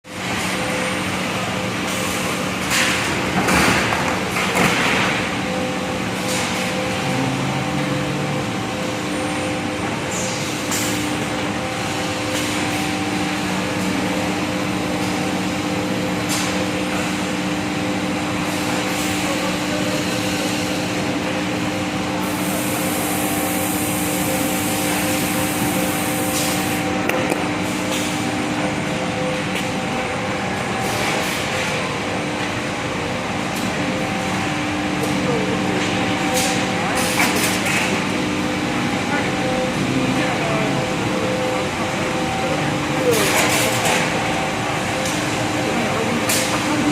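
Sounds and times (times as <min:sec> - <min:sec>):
broad rush of noise: 0:00.1 - 0:46.9.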